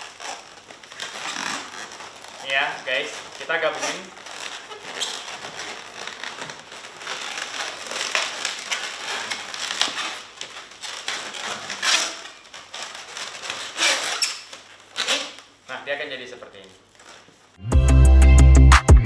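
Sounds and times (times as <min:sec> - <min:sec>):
balloons rubbing and squeaking: 0:00.0 - 0:17.6.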